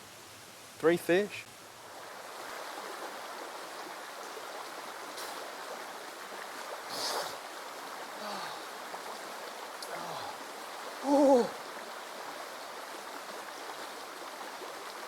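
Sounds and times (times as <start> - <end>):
river water rushing: 1.6 - 15.0.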